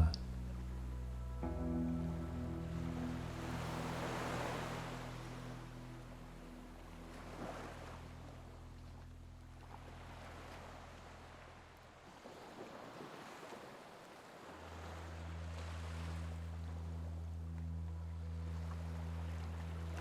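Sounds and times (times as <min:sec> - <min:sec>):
low steady drone: 0:00.0 - 0:12.0, 0:14.5 - 0:20.0
ocean waves washing: 0:00.0 - 0:20.0.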